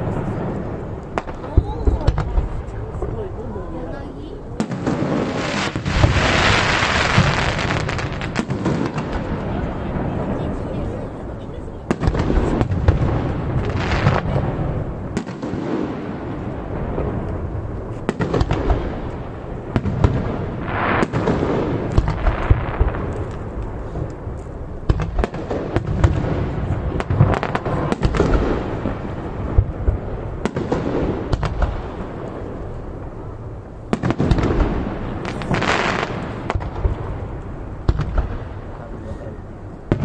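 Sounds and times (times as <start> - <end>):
firework shells booming: 0.0 - 3.4, 4.6 - 10.6, 11.8 - 39.0, 39.6 - 40.0
fireworks crackling: 0.0 - 40.0.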